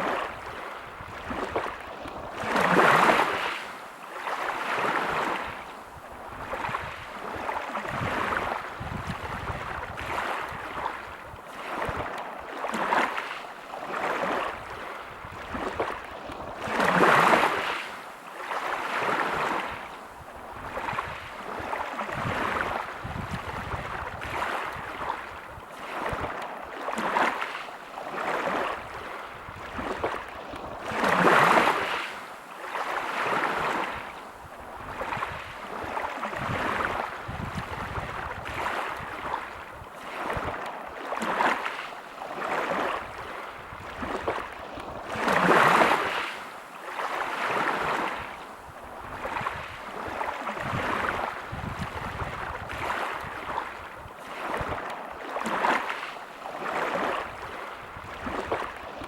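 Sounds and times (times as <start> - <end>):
waves breaking on pebble beach: 0.0 - 5.7, 6.4 - 19.9, 20.6 - 34.1, 34.8 - 59.0.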